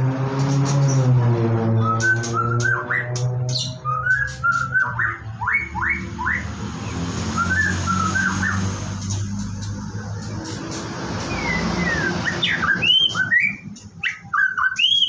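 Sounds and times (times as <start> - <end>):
bird whistling song: 1.8 - 15.0.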